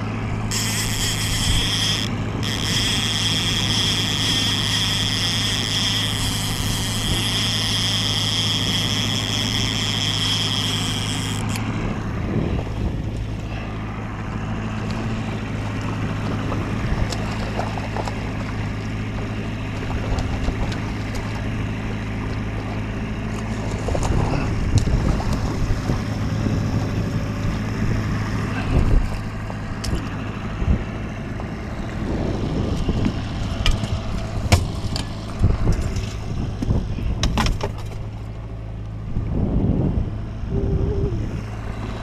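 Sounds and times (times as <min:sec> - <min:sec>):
boat motor humming: 0:00.0 - 0:42.0.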